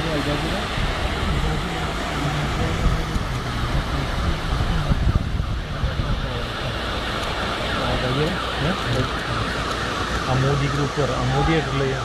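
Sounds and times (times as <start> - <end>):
distant voices: 0.0 - 12.0
flooded street noise: 0.0 - 12.0.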